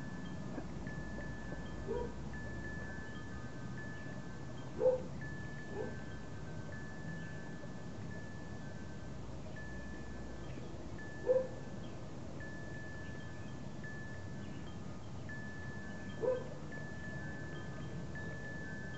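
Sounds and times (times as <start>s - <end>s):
soft chime-like background music: 0.0s - 18.9s.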